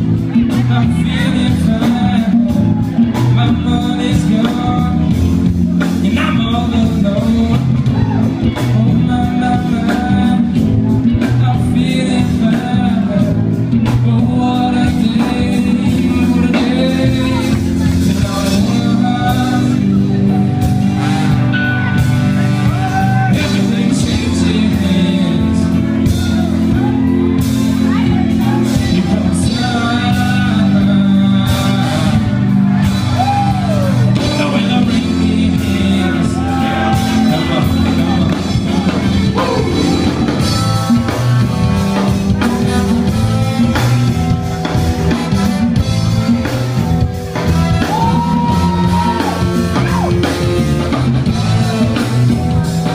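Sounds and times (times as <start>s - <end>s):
drum kit: 0.0s - 52.9s
electric guitar: 0.0s - 52.9s
keyboards: 0.0s - 52.9s.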